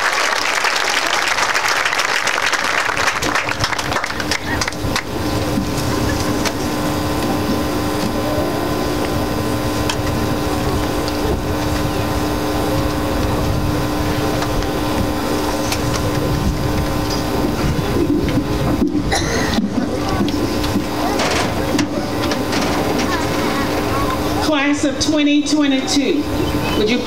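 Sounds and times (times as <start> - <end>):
constant hum: 0.0 - 27.0.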